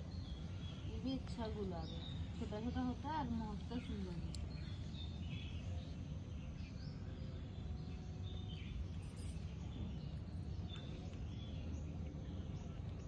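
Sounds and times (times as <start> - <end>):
low outdoor rumble: 0.0 - 13.0
small birds chirping: 0.0 - 13.0.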